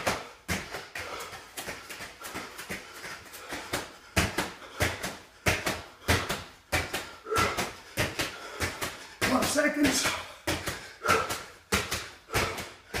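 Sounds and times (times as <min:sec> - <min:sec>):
bare feet thudding on rubber mat: 0:00.0 - 0:13.0.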